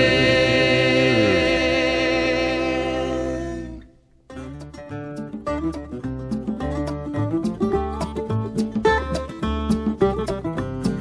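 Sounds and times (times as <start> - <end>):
plucked string instrument: 0.0 - 11.0.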